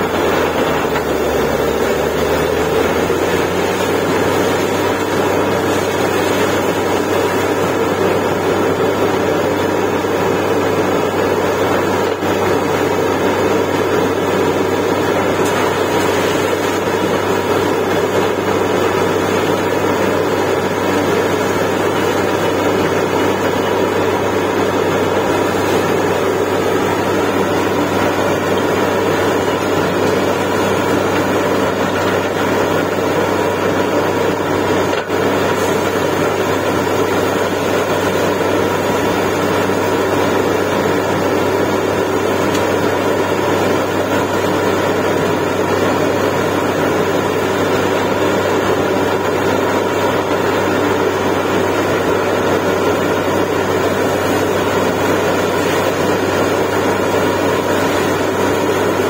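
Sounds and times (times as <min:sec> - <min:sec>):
drilling rig engine drone: 0:00.0 - 0:59.0.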